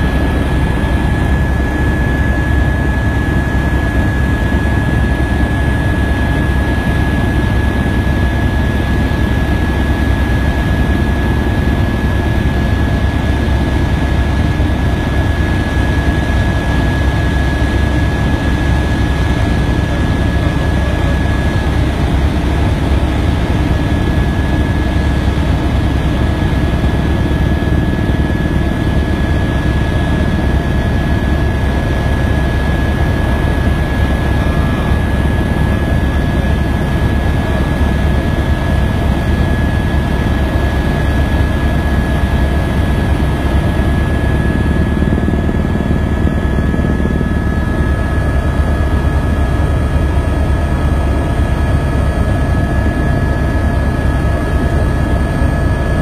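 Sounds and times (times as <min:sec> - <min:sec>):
aircraft engine drone: 0:00.0 - 0:56.0.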